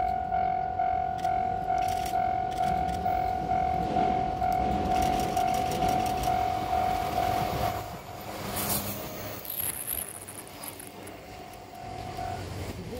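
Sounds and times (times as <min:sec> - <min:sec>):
crossing alarm bell ringing: 0:00.0 - 0:09.6, 0:11.2 - 0:12.8
electric train running past: 0:00.0 - 0:12.9.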